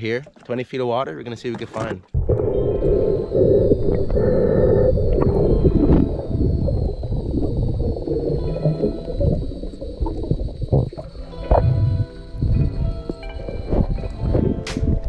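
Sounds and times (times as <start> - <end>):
underwater rumble with gurgles: 2.1 - 15.0
faint high whine: 2.2 - 15.0.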